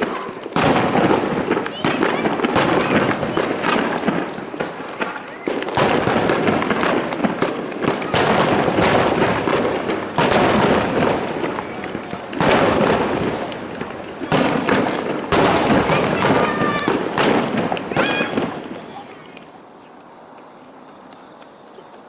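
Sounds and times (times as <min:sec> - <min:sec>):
loud firework booms: 0:00.0 - 0:19.4
fireworks bursting: 0:00.0 - 0:20.3.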